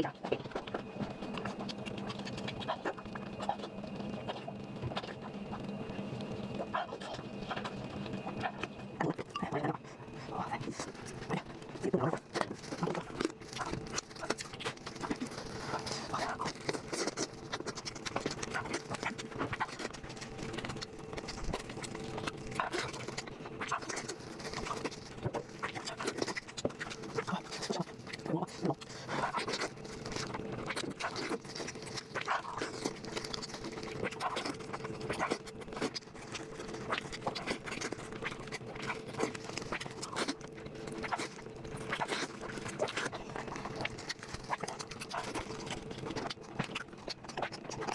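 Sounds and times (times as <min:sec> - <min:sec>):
faint steady hum: 0:00.0 - 0:47.9
wet chewing and crunching: 0:00.0 - 0:47.9.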